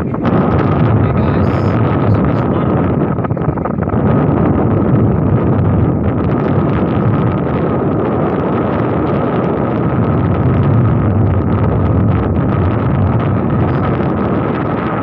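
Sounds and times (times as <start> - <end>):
boat engine running: 0.0 - 15.0
wind buffeting microphone: 0.0 - 15.0.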